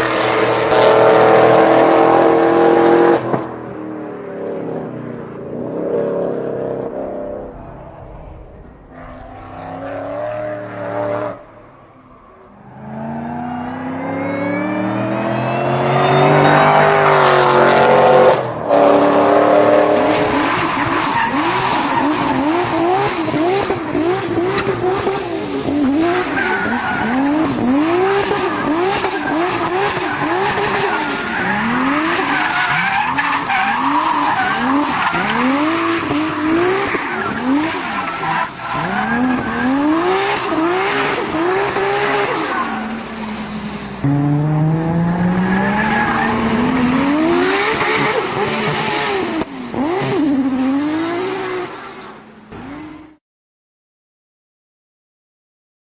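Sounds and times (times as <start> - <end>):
car engine revving: 0.0 - 51.7
tyres skidding and squealing: 0.0 - 53.2.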